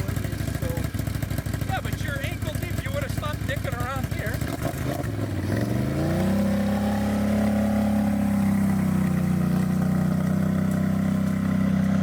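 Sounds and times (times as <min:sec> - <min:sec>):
atv engine at high revs: 0:00.0 - 0:12.0.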